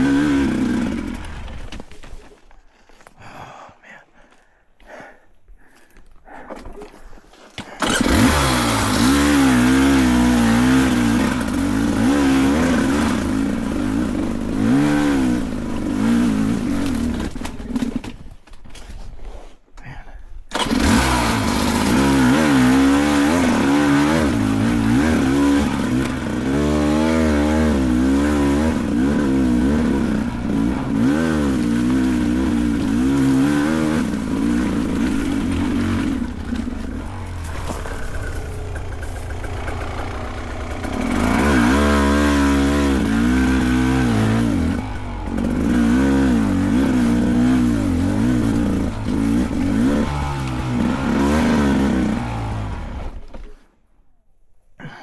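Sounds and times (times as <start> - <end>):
dirt bike engine revving: 0.0 - 1.8, 7.7 - 18.0, 20.5 - 53.5.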